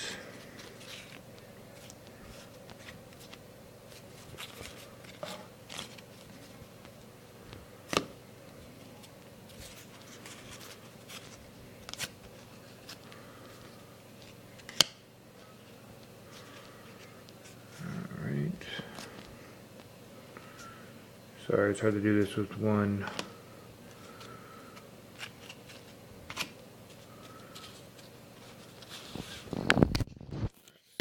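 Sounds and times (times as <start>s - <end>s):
cards and packaging rustling: 0.2s - 14.8s, 15.4s - 19.4s, 22.0s - 31.0s.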